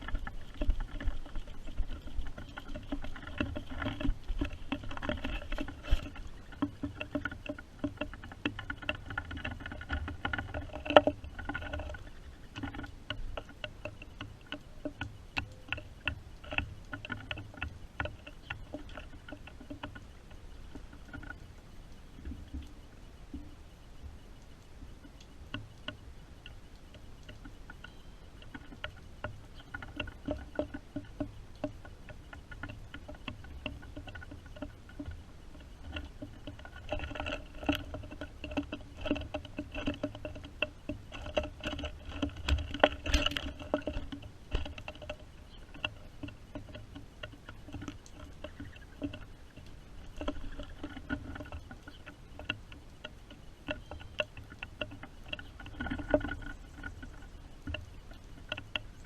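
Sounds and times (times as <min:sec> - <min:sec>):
rain pattering and dripping: 0:00.0 - 0:59.0.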